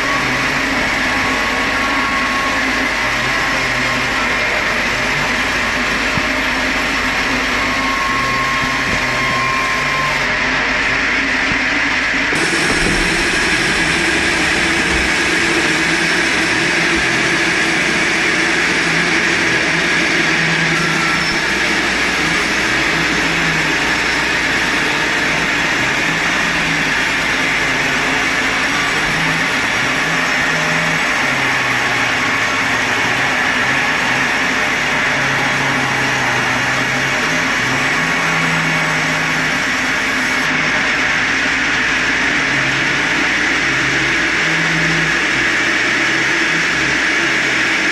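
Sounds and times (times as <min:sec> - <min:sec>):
low machine hum: 0:00.0 - 0:47.8
sawmill cutting wood: 0:00.0 - 0:47.9.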